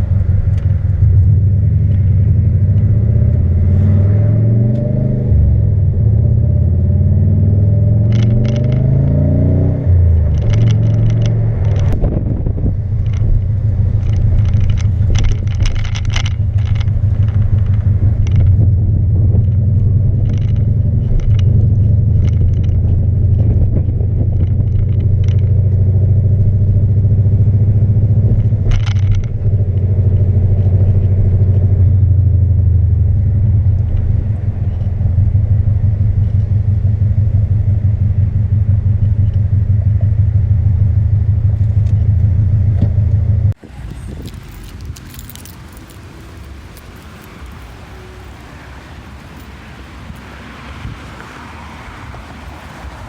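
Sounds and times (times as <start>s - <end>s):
car exhaust droning: 0.0s - 53.0s.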